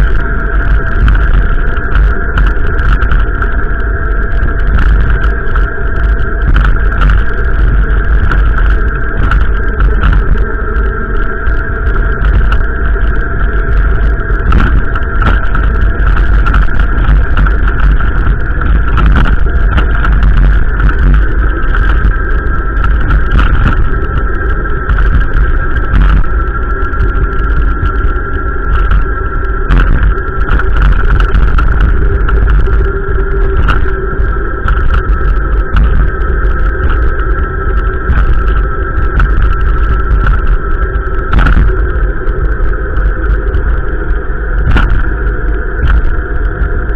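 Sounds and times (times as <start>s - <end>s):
scattered crackles: 0.0s - 46.9s
wind buffeting microphone: 0.0s - 46.9s.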